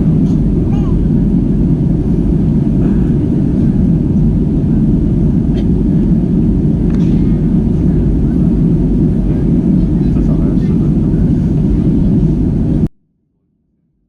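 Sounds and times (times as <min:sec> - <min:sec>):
airplane cabin rumble: 0:00.0 - 0:12.9.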